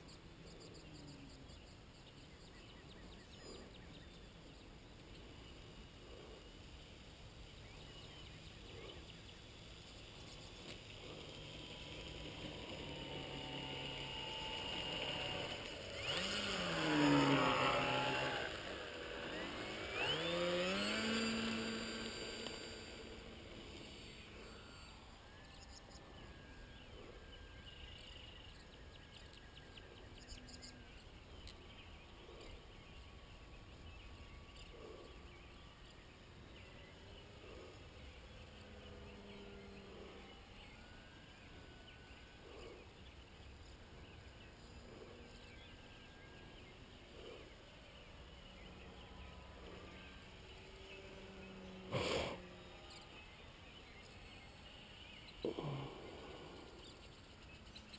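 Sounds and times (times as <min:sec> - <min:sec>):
model plane motor whining: 0:05.5 - 0:57.9.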